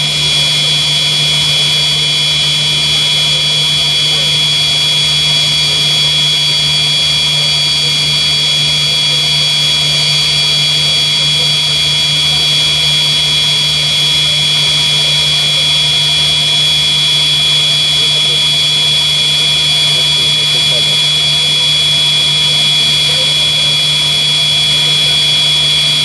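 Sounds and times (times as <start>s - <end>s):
jet engines high turbine whistle: 0.0s - 26.0s.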